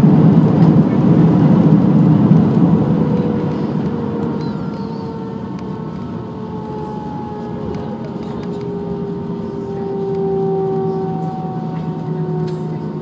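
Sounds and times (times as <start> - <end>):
aircraft cabin rumble: 0.0 - 13.0
jet engines whining down: 0.0 - 13.0.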